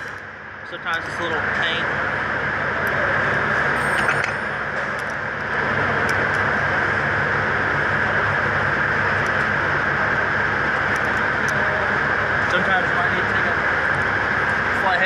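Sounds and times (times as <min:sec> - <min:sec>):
shop mechanical drone and hiss: 0:00.0 - 0:15.0.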